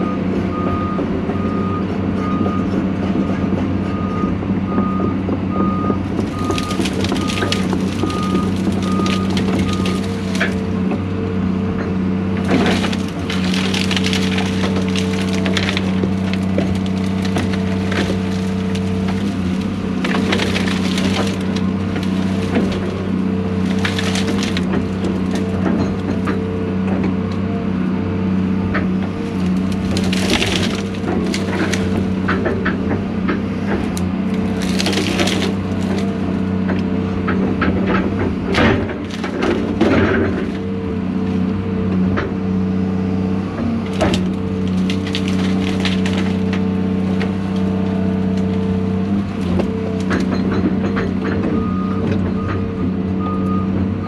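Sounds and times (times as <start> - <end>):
excavator diesel engine running: 0.0 - 54.0
wood cracking and splintering: 6.0 - 27.8, 28.5 - 42.4, 43.2 - 52.7.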